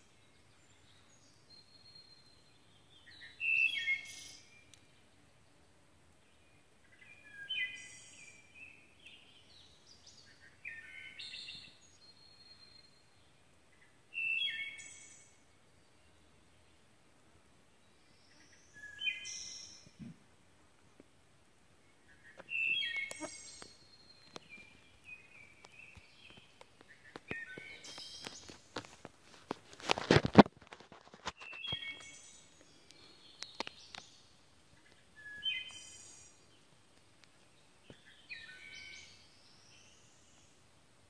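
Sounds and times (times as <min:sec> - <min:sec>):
songbird singing: 0:00.0 - 0:17.0, 0:17.6 - 0:41.0.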